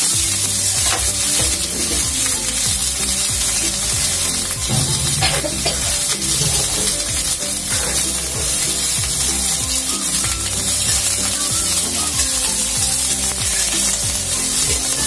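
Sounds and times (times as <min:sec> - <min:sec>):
background music: 0:00.0 - 0:15.0
vegetables sizzling in oil: 0:00.0 - 0:15.0.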